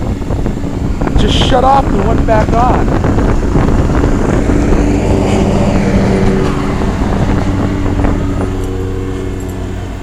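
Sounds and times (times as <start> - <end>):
air conditioner unit humming: 0.0 - 10.0.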